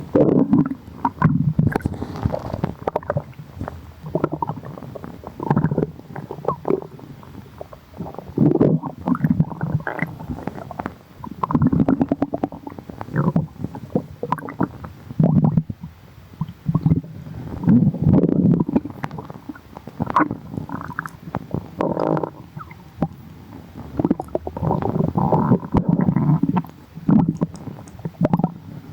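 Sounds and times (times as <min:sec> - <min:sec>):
stomach growling: 0:00.0 - 0:28.9.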